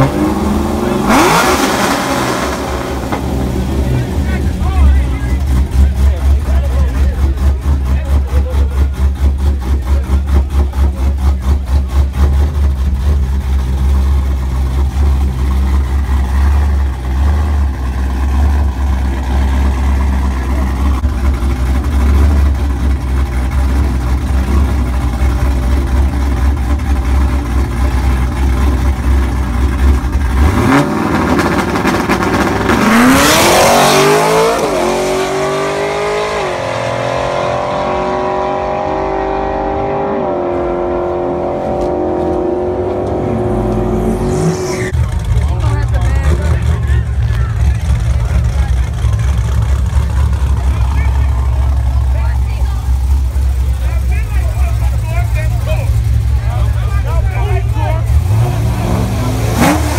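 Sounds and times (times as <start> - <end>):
car engine idling: 0.0 - 36.4, 40.4 - 59.9
car accelerating at full throttle: 0.0 - 59.9.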